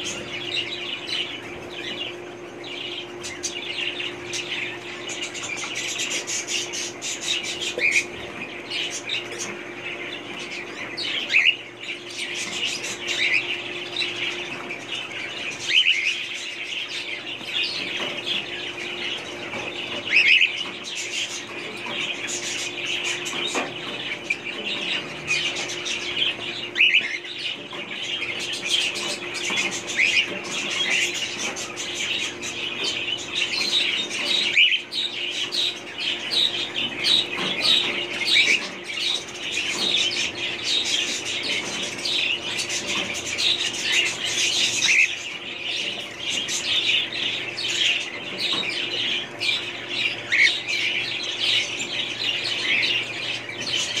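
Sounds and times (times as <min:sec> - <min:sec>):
quail chicks chirping: 0:00.0 - 0:54.0.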